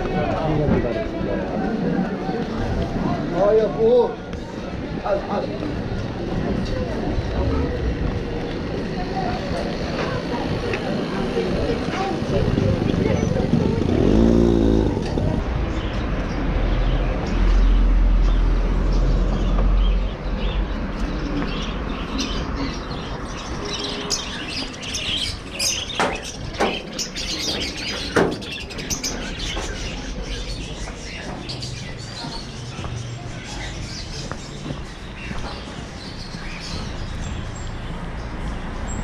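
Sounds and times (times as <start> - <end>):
street noise: 0.0 - 39.0
small birds chirping: 1.4 - 39.0.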